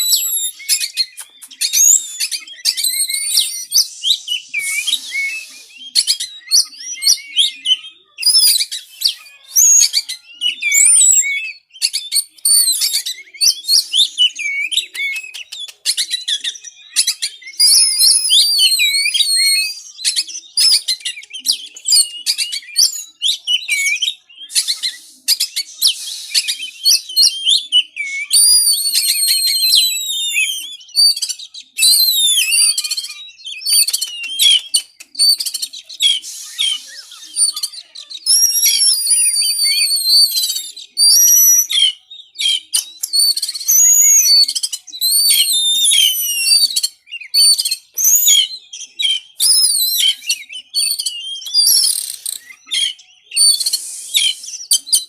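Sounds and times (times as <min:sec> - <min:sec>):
bird singing whistled phrases: 0:00.0 - 0:55.0.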